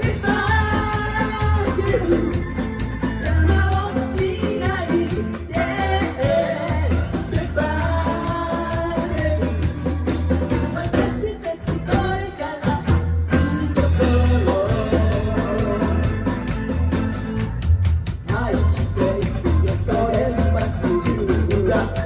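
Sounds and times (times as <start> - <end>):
person singing: 0.0 - 17.3, 18.2 - 22.0
bass guitar: 0.0 - 22.0
drums: 0.0 - 22.0
live band playing: 0.0 - 22.0.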